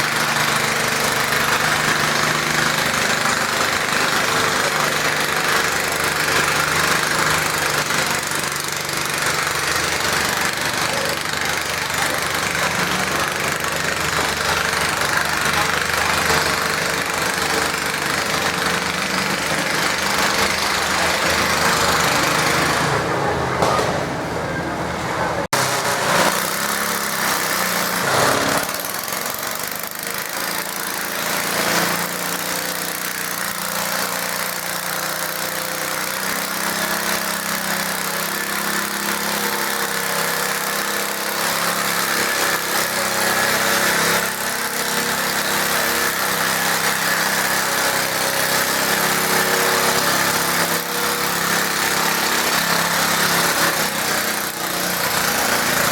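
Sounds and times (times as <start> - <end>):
garden tractor engine running: 0.0 - 24.4, 25.0 - 55.9.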